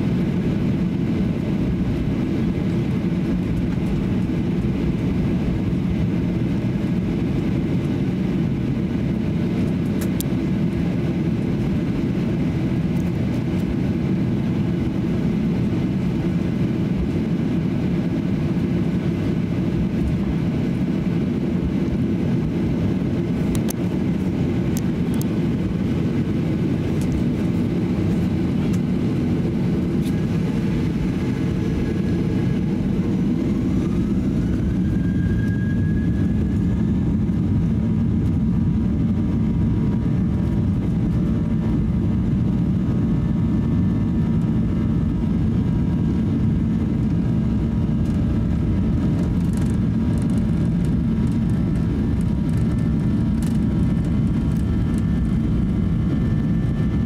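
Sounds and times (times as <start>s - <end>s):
airplane cabin engine hum: 0.0s - 57.0s.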